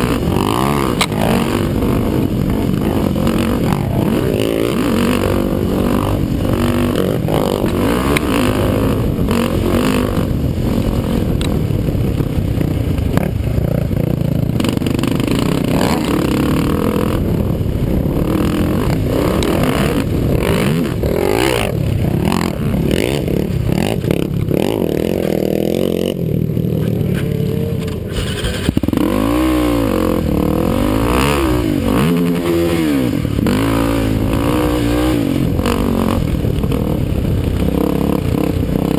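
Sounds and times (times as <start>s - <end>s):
quad engine running hard: 0.0s - 38.9s.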